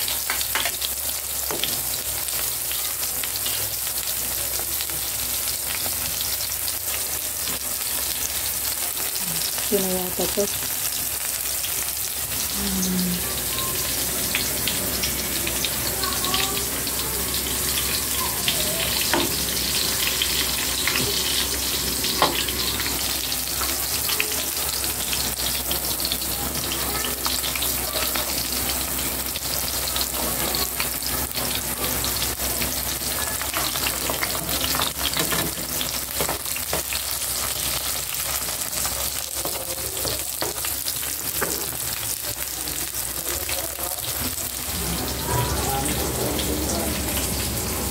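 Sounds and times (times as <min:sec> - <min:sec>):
eggplant sizzling in oil: 0:00.0 - 0:47.9.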